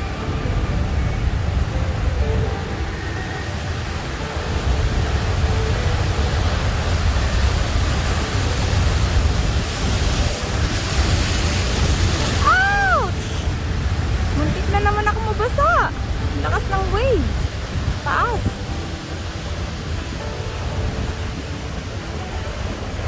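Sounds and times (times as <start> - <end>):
ocean surf breaking: 0.0 - 23.0
wind rumbling on microphone: 0.0 - 23.0.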